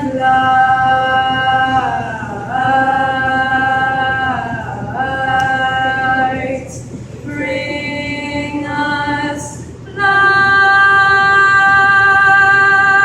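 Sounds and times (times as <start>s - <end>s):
female choir singing a cappella: 0.0s - 13.0s.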